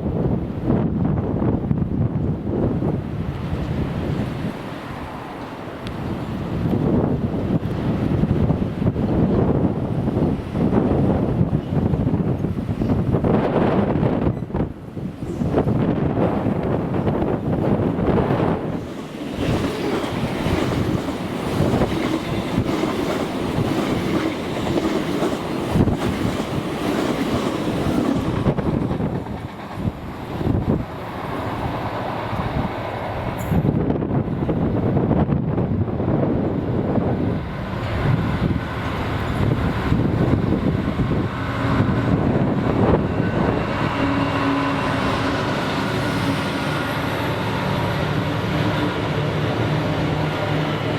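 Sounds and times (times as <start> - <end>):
train wheels rumbling on rails: 0.0 - 50.9
wind buffeting microphone: 0.0 - 50.9.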